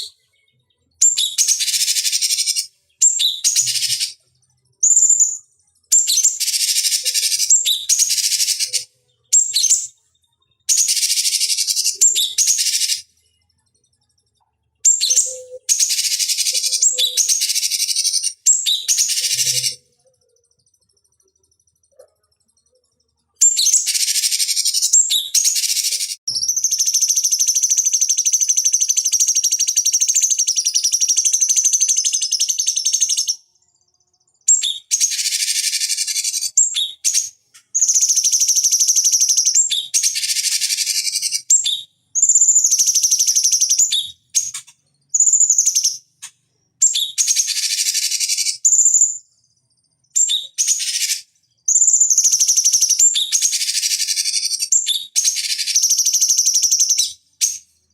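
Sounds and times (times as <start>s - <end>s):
bird chattering song: 0.0s - 57.9s.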